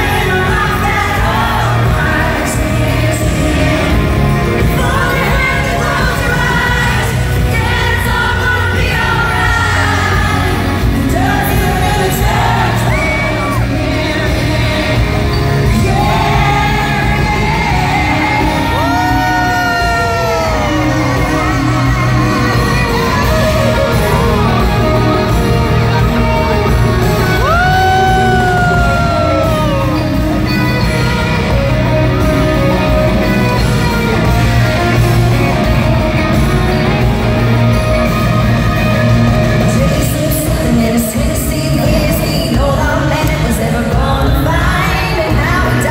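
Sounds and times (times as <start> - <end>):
woman singing: 0.0 - 37.0, 39.5 - 45.9
band with guitars and drums: 0.0 - 45.9.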